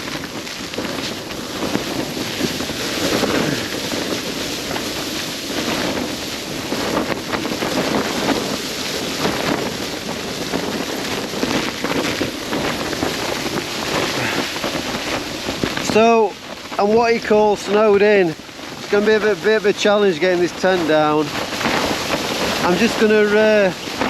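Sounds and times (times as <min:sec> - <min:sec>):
short irregular crackles: 0:00.0 - 0:24.0
wind gusting against a tent: 0:00.0 - 0:24.0
wind noise on microphone: 0:00.0 - 0:24.0.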